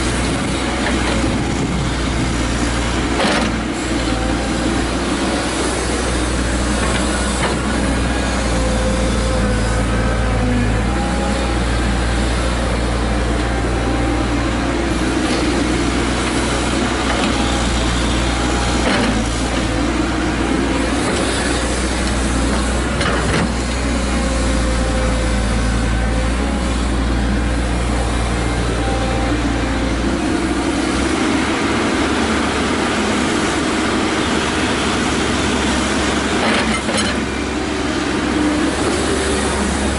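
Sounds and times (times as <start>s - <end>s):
diesel engine running under load: 0.0s - 39.9s
hydraulic whine: 0.0s - 39.9s.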